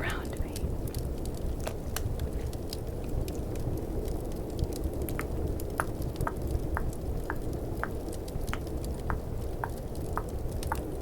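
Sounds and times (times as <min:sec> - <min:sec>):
fireplace crackling: 0:00.0 - 0:11.0.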